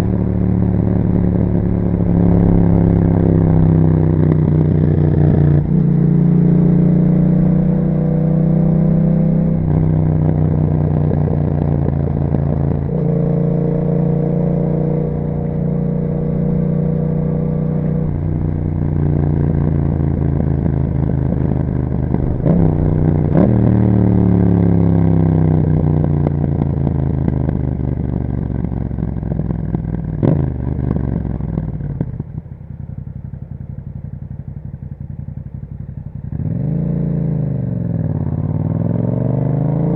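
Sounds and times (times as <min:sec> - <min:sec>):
motorcycle engine revving: 0:00.0 - 0:39.9
motorcycle engine running: 0:00.0 - 0:39.9.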